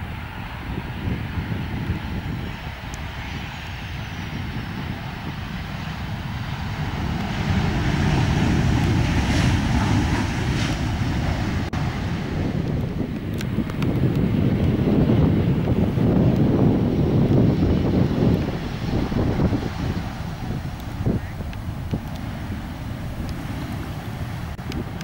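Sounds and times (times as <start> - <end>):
jet airliner landing: 0.0 - 25.0.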